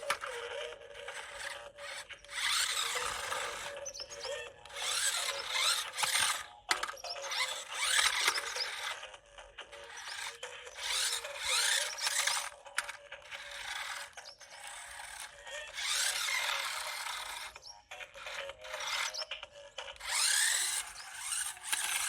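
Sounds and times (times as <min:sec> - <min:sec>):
toy car motor whirring: 0:00.0 - 0:22.0.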